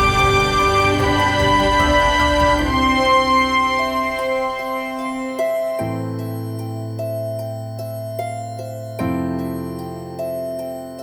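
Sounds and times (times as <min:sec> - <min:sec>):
soft sustained keyboard notes: 0:00.0 - 0:11.0.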